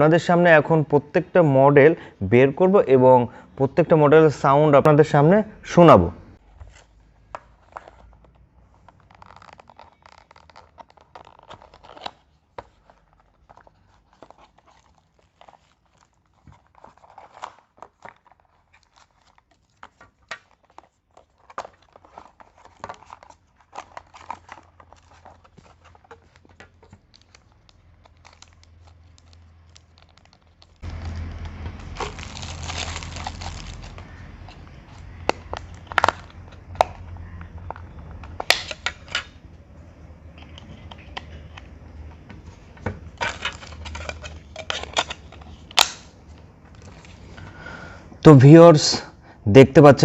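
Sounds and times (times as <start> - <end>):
rustling and crinkling: 6.4 - 47.6.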